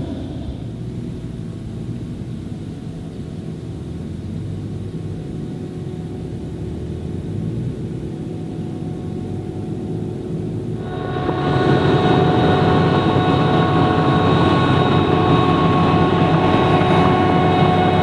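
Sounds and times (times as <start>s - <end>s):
diesel harvester engine drone: 0.0s - 18.0s
steady whine: 0.0s - 18.0s.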